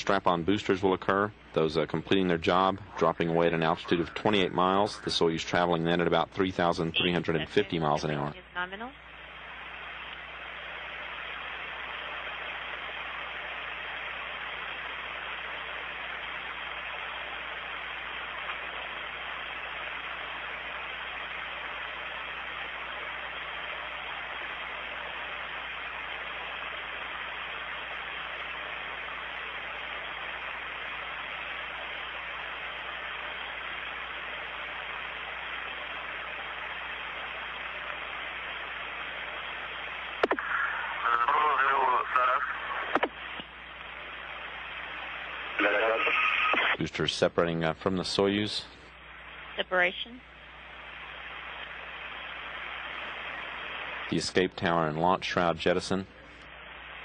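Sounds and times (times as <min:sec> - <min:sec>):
radio static hiss: 0:00.0 - 0:57.0.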